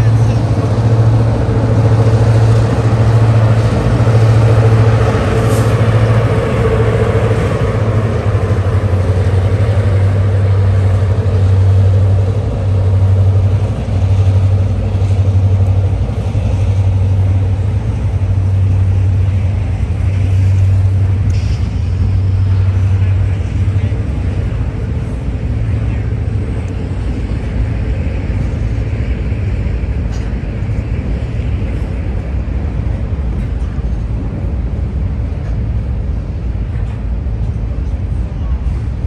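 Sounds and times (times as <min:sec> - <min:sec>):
train rumble and wheel clatter: 0:00.0 - 0:39.0.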